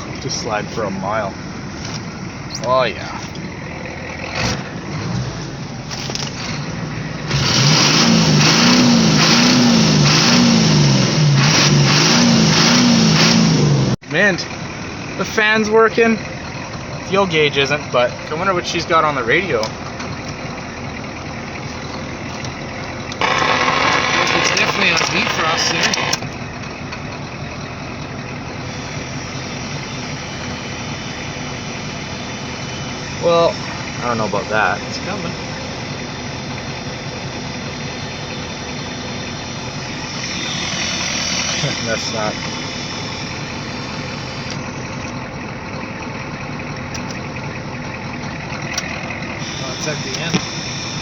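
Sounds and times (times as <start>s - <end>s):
diesel engine idling: 0.0s - 51.0s
truck running noise: 0.0s - 51.0s.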